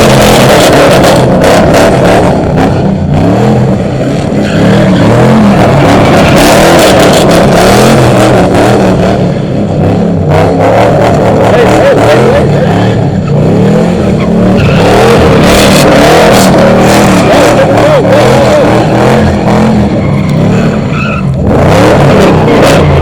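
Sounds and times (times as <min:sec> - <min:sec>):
car engine revving: 0:00.0 - 0:23.0
tires squealing: 0:00.0 - 0:23.0.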